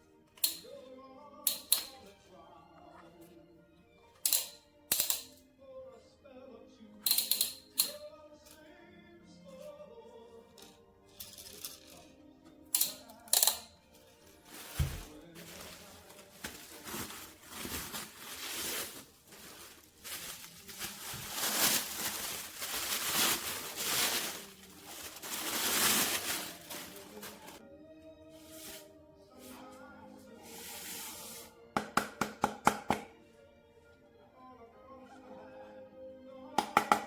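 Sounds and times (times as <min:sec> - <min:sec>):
background music: 0:00.0 - 0:37.0.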